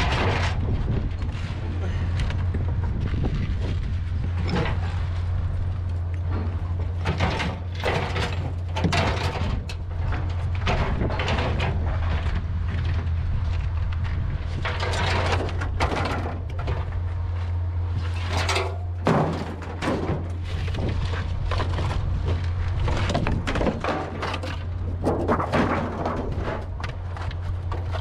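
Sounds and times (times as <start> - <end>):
sheet metal scraping and clanking: 0.0 - 1.6, 4.2 - 5.5, 6.2 - 13.0, 14.4 - 17.1, 17.8 - 28.0
steady low hum: 0.0 - 28.0.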